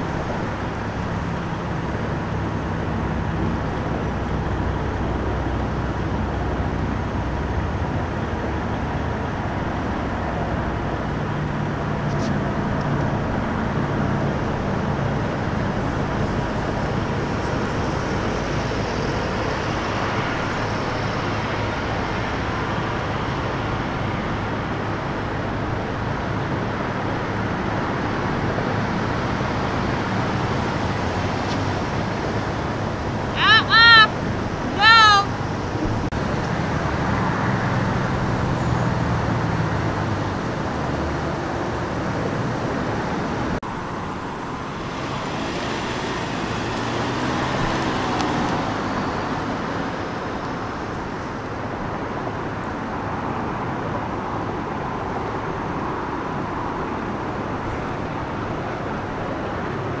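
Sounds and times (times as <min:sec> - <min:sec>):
freeway traffic rushing: 0:00.0 - 1:00.0.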